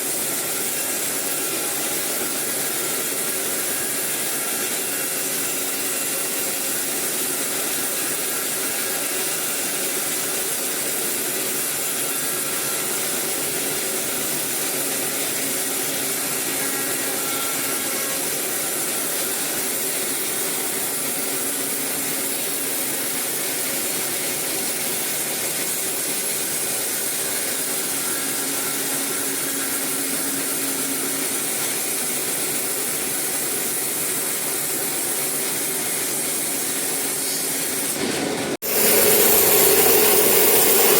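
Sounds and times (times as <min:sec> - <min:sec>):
saw cutting timber: 0:00.0 - 0:40.9.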